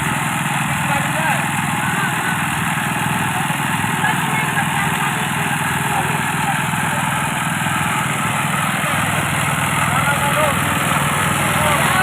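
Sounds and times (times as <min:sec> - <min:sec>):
engine-driven thresher running: 0:00.0 - 0:12.0.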